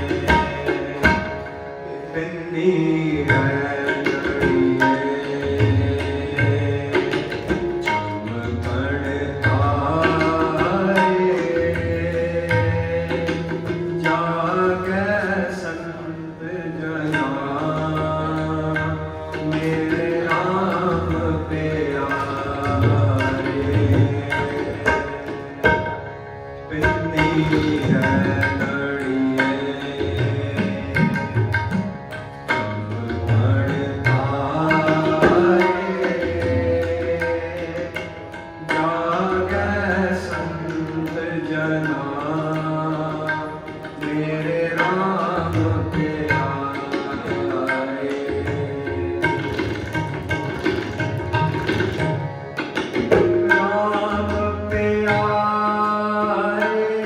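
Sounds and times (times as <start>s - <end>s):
tabla playing a steady beat: 0.0s - 57.0s.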